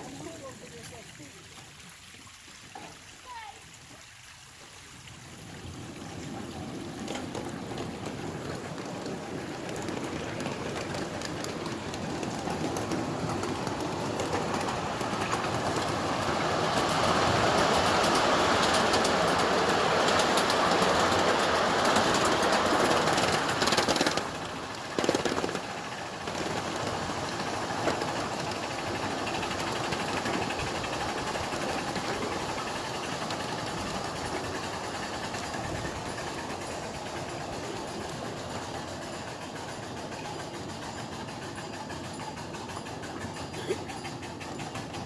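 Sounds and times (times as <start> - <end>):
miniature steam train running: 0.0 - 2.0, 2.7 - 45.0.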